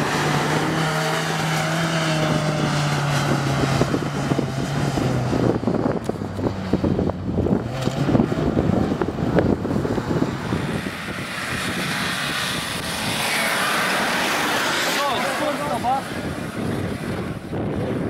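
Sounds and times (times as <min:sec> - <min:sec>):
gravel crackling under tyres: 0:00.0 - 0:18.0
off-road engine running hard: 0:00.0 - 0:18.0
steady rushing noise: 0:00.0 - 0:18.0.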